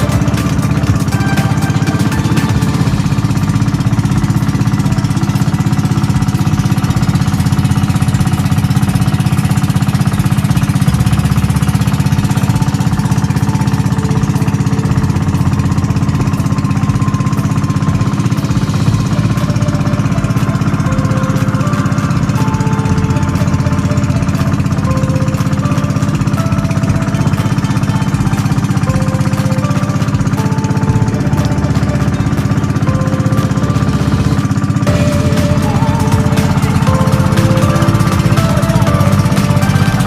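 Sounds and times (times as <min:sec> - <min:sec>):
small boat engine chugging: 0:00.0 - 0:40.0.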